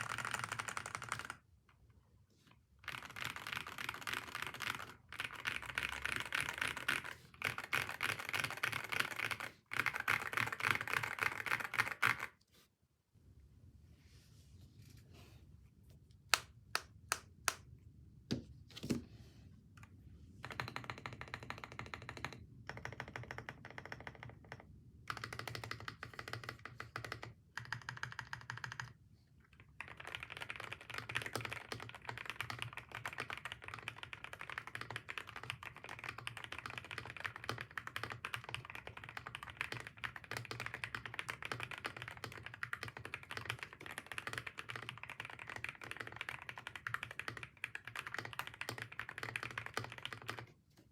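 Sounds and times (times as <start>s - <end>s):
mechanical keyboard typing: 0.0s - 1.4s, 2.8s - 12.4s, 20.4s - 50.6s.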